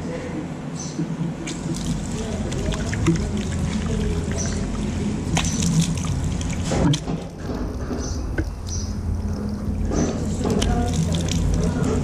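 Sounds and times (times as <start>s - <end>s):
water splashing over hands: 1.4s - 12.0s
tap water running into washbasin: 1.5s - 12.0s.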